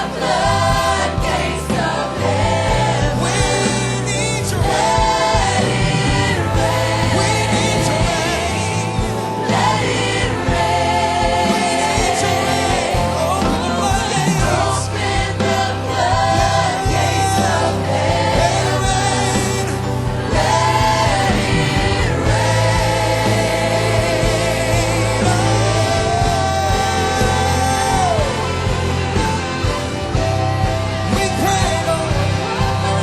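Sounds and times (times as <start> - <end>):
choir singing: 0.0 - 33.0
live band playing gospel: 0.0 - 33.0.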